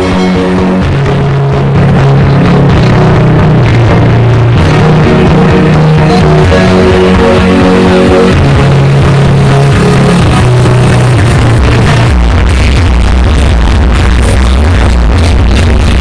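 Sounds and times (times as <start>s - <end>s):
loud music with heavy bass: 0.0s - 16.0s.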